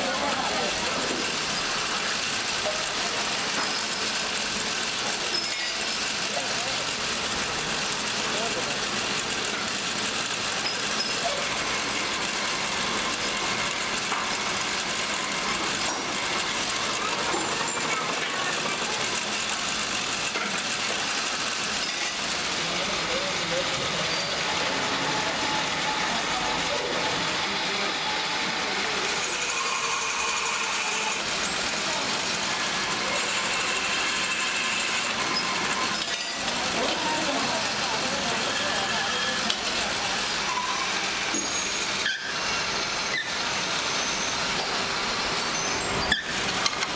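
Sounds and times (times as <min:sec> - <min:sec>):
metal lathe running: 0:00.0 - 0:46.9.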